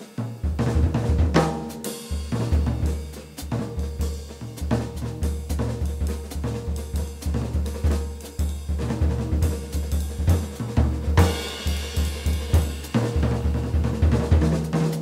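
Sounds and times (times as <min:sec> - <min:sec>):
jazz drum kit: 0:00.0 - 0:15.0.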